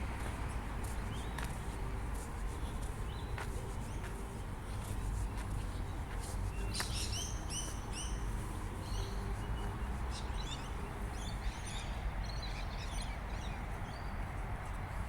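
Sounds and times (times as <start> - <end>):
small birds chirping: 0.8 - 14.3.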